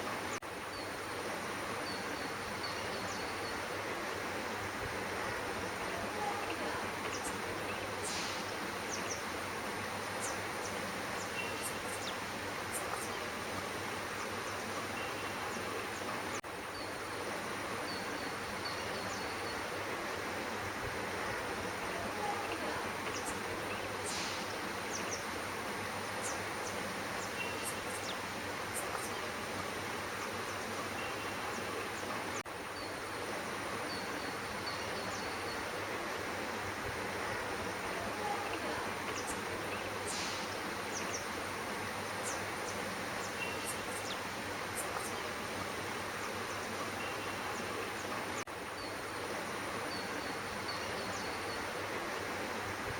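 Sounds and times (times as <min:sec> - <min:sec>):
outdoor background hiss: 0:00.0 - 0:52.9.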